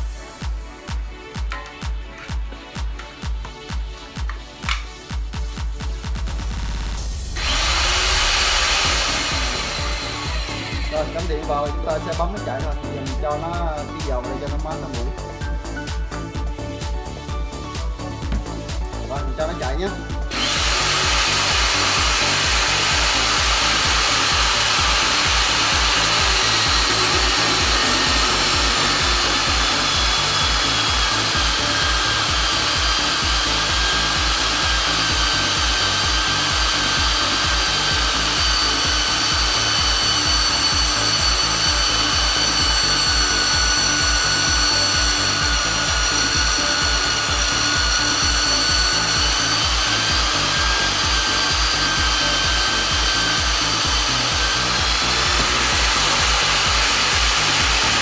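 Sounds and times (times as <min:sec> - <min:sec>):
drill boring through steel: 0:07.1 - 0:17.2, 0:18.0 - 0:58.0.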